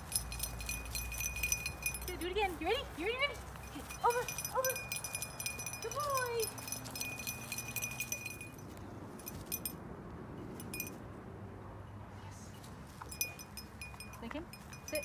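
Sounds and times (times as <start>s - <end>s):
metallic tinkling and clinking: 0.0s - 9.8s, 10.5s - 11.0s, 13.0s - 15.0s.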